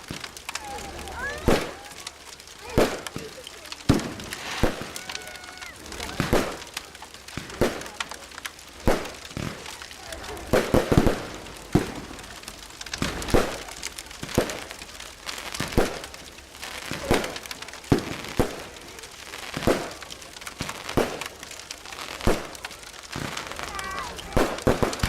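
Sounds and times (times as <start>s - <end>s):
sharp cracks: 0.0s - 25.0s.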